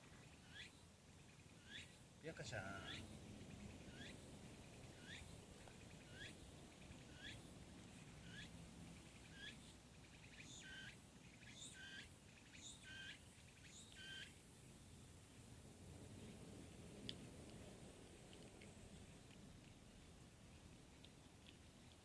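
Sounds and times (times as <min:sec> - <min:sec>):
outdoor ambience: 0:00.0 - 0:22.0.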